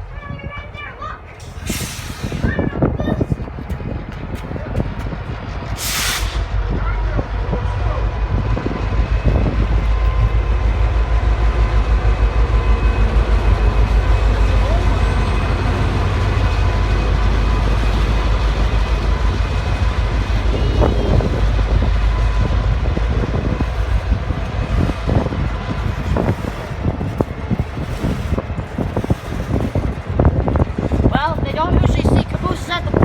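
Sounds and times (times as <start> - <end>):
freight train rumble: 0.0 - 33.0
train knocks and clatter: 0.0 - 33.0.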